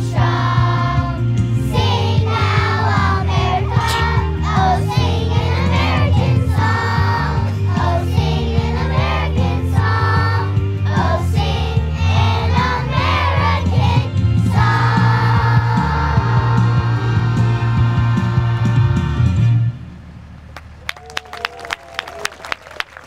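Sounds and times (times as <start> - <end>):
steady bass accompaniment: 0.0 - 20.8.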